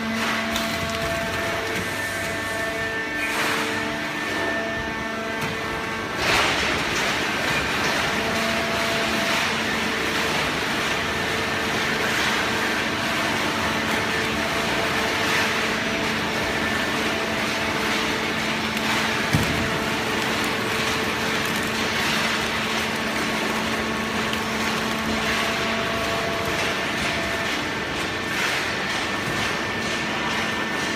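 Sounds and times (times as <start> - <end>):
industrial machine hum: 0.0 - 30.9.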